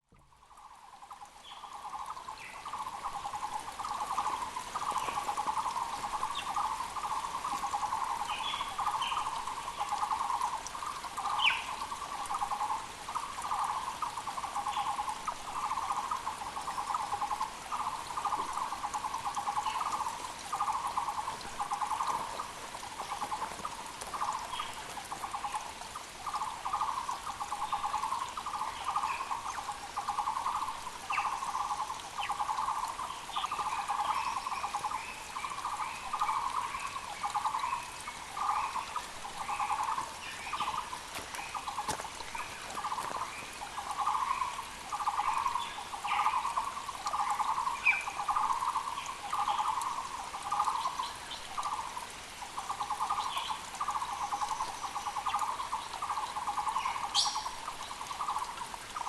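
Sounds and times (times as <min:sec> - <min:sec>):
faint creek rushing: 0:00.0 - 0:59.0.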